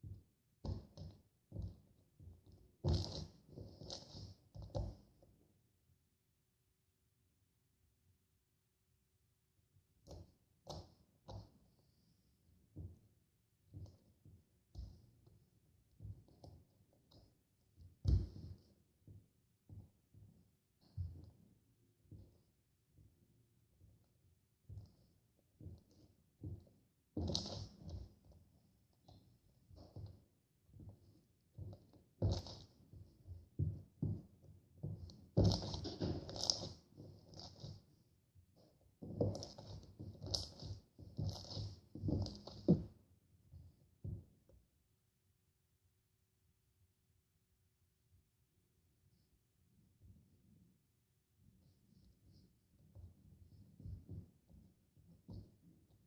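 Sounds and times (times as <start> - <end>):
soft irregular clicks and taps: 0.0 - 5.6, 9.9 - 44.8, 51.6 - 56.0.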